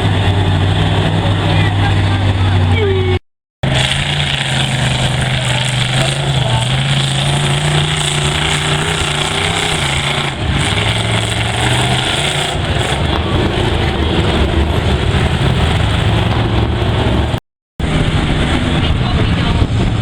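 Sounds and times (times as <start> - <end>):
truck engine running loud: 0.0 - 20.0.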